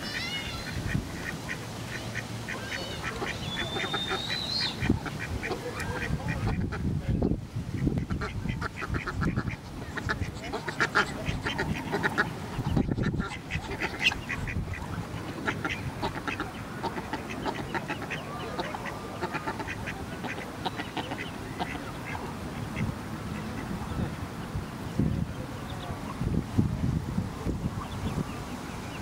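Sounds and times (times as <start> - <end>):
ducklings peeping: 0.0 - 26.3, 27.4 - 29.0.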